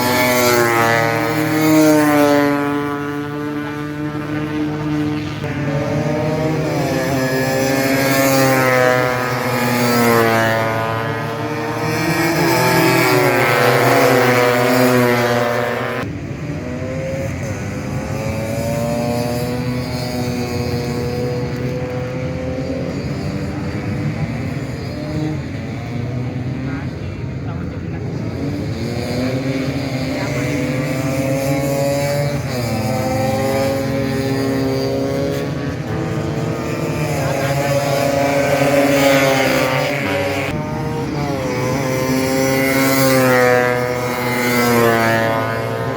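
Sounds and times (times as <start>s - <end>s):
scooter engines racing: 0.0s - 45.9s.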